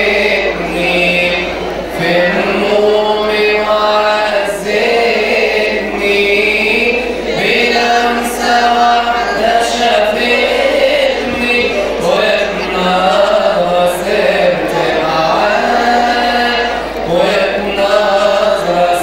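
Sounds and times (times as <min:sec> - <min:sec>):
man chanting hymn through speakers: 0:00.0 - 0:19.0.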